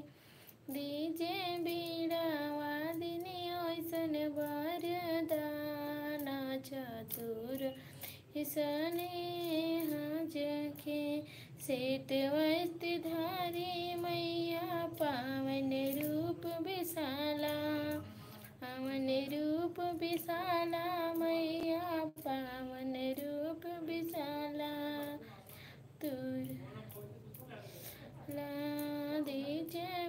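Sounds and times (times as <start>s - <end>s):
woman singing: 0.7s - 27.2s, 28.2s - 30.0s.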